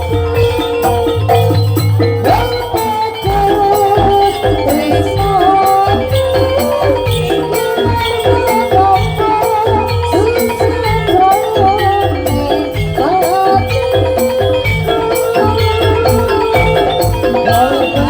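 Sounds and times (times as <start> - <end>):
gamelan ensemble playing: 0.0 - 18.0
struck metal percussion: 0.0 - 18.0.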